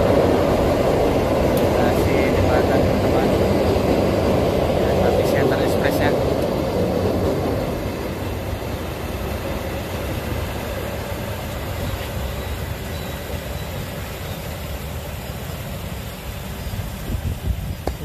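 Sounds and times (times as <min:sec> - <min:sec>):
train rumbling along track: 0:00.0 - 0:18.0
water rushing: 0:00.0 - 0:18.0.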